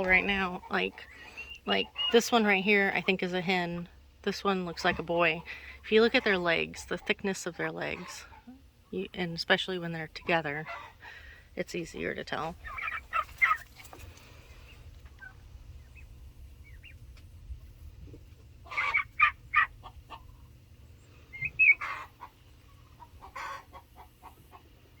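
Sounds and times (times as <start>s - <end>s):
steady low hum: 0.0s - 25.0s
young chickens clucking: 0.0s - 25.0s.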